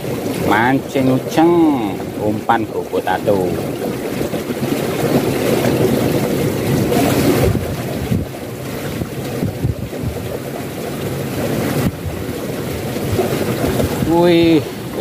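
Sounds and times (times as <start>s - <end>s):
water rushing into ditch: 0.0s - 15.0s.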